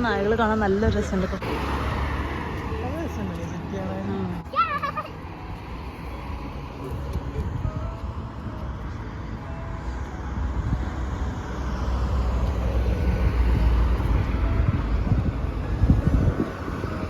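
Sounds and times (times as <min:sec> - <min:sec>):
vehicle engine and tyre rumble: 0:00.0 - 0:17.0.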